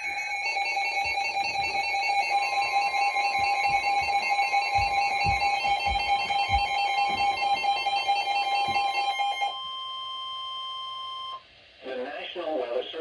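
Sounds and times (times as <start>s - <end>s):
shrill alarm tones from radio: 0.0s - 11.4s.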